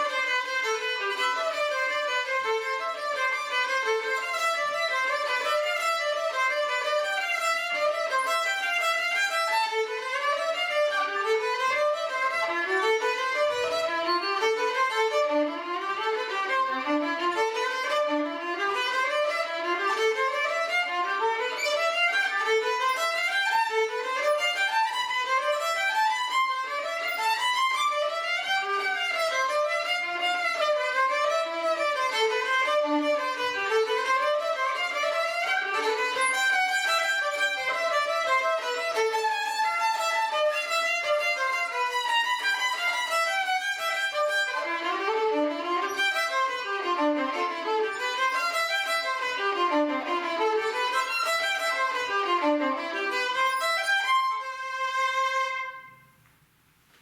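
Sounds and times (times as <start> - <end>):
violin playing fast runs: 0.0 - 56.1.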